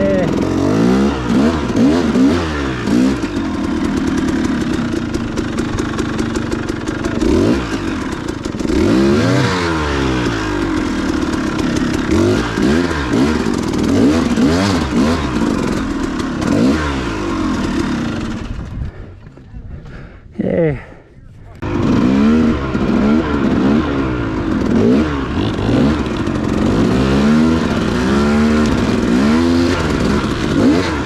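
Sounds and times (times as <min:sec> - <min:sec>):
dirt bike engine revving: 0:00.0 - 0:19.1, 0:21.6 - 0:31.0.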